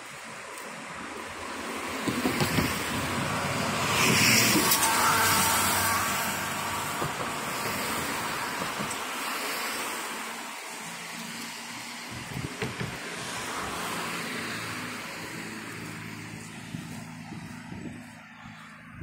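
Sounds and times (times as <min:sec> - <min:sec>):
steady traffic hum: 0:00.0 - 0:19.0
car passing: 0:00.2 - 0:19.0.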